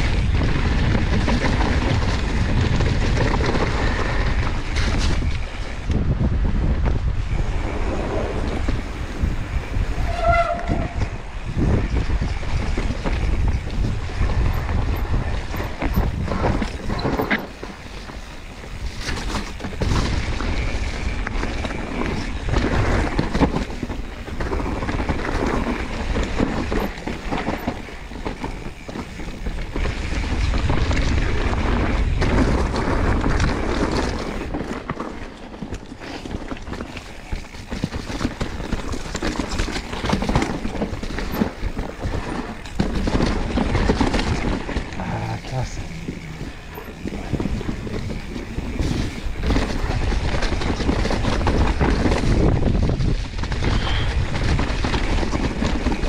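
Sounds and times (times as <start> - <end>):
bike rattling over bumps: 0.0 - 56.0
tyres on dirt trail: 0.0 - 56.0
wind buffeting microphone: 0.0 - 56.0.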